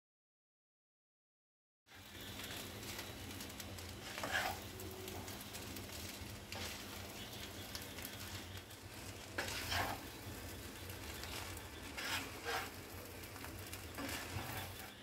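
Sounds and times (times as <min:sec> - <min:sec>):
fried rice sizzling in a pan: 0:01.9 - 0:15.0
spatula scraping through rice: 0:01.9 - 0:15.0.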